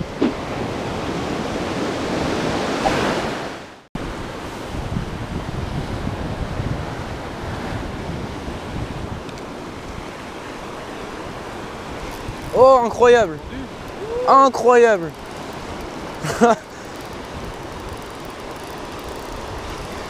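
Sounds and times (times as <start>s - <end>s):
waves breaking on shingle beach: 0.0s - 20.0s
wind buffeting microphone: 0.0s - 20.0s.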